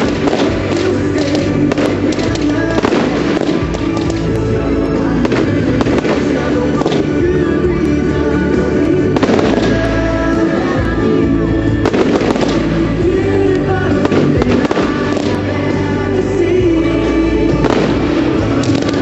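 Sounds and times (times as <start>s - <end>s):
fireworks bangs and crackling: 0.0s - 19.0s
loud music with held notes: 0.0s - 19.0s.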